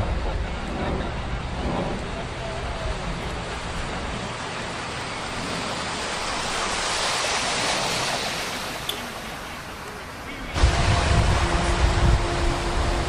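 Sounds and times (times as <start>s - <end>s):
tyres splashing through floodwater: 0.0s - 13.0s.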